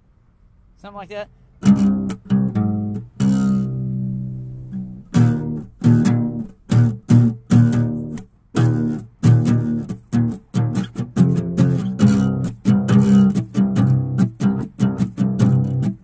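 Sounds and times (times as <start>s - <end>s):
acoustic guitar chords: 1.6s - 16.0s.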